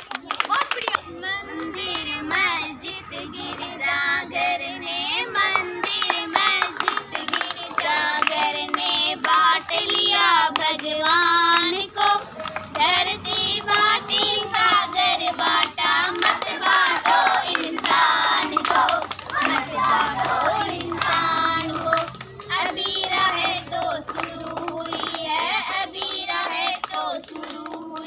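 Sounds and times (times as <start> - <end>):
hands clapping: 0.0 - 3.8, 5.3 - 28.0
children singing: 1.0 - 28.0.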